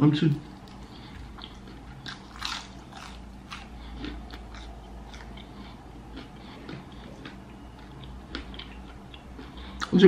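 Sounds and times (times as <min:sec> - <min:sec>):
chewing crunchy burger: 0:00.3 - 0:10.0.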